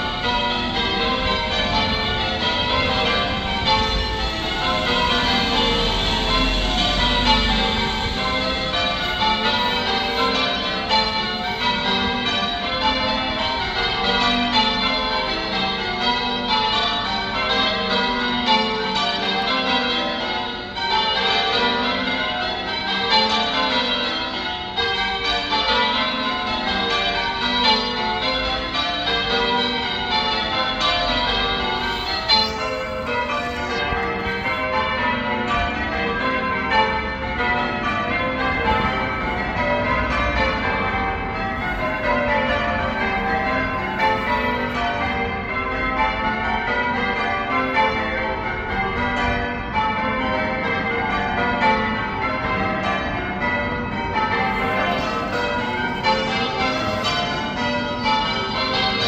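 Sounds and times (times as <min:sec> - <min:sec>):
church bells change ringing: 0:00.0 - 0:59.0.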